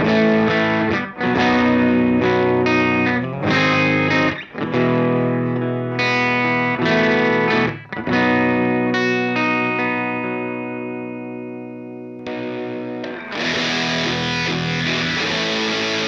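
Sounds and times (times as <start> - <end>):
clean electric guitar chords: 0.0 - 16.0.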